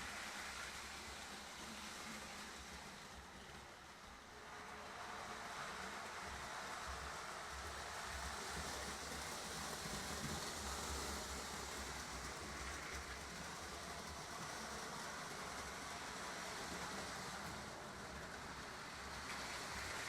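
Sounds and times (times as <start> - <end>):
model trains rumbling: 0.0 - 20.0.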